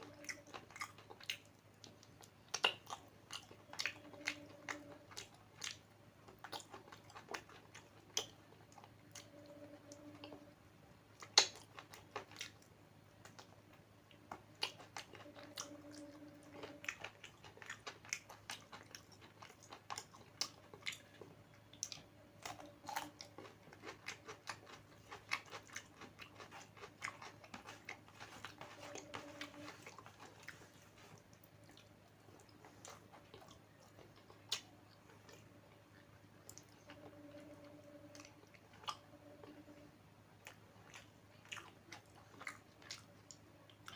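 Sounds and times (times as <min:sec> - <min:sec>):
close chewing with mouth smacks: 0:00.0 - 0:39.8, 0:40.4 - 0:43.9.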